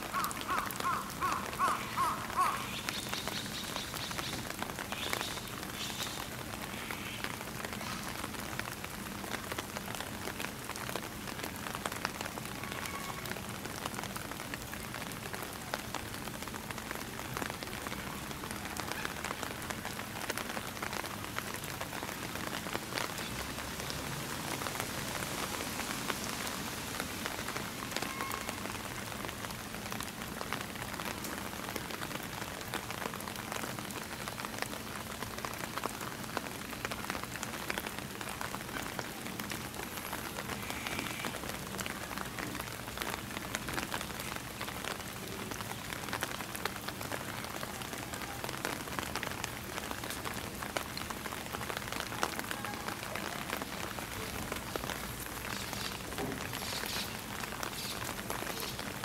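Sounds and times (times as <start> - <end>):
raindrops ticking on surfaces: 0.0 - 59.0
steady rain falling: 0.0 - 59.0.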